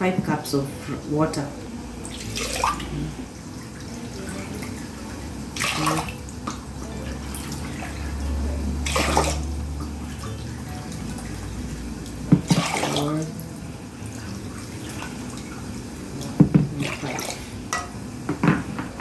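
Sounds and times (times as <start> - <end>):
water pouring into a pot: 1.9 - 18.3.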